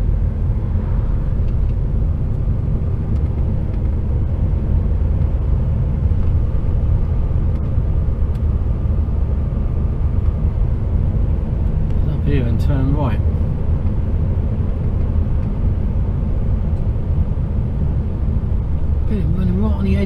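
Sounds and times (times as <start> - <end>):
truck engine rumble in cab: 0.0 - 20.0.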